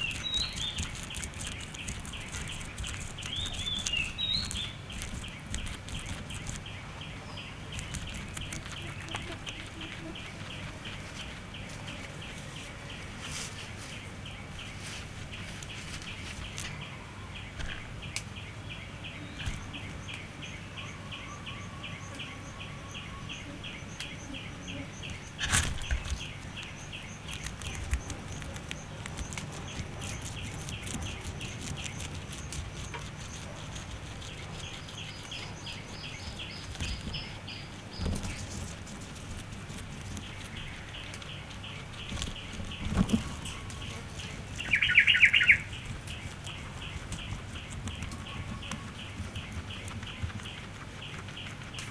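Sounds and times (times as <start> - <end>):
grass rustling: 0.0 - 18.0, 24.2 - 51.9
guinea pig chewing grass: 0.0 - 18.2, 19.1 - 51.9.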